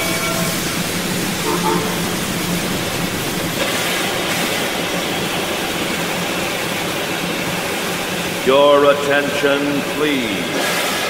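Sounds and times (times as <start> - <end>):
steam hiss: 0.0 - 11.0
steam train rumbling: 0.0 - 11.0.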